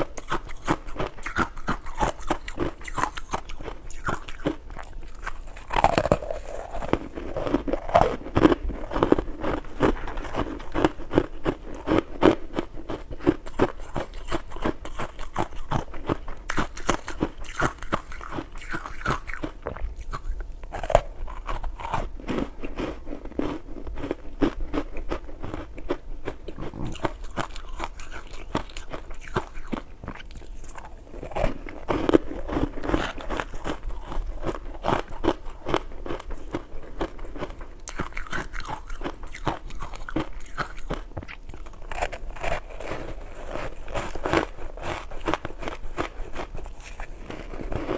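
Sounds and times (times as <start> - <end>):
crunching and chewing ice: 0.0 - 47.9.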